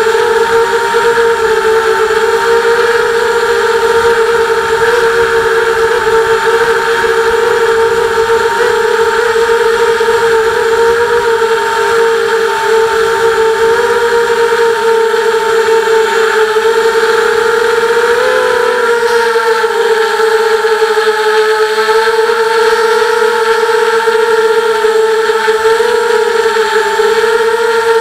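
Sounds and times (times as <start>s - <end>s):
quadcopter propellers whining: 0.0s - 28.0s.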